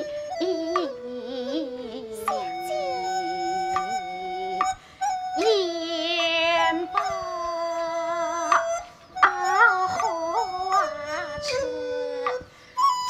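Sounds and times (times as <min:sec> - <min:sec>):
high voice singing melismatic notes: 0:00.0 - 0:13.0.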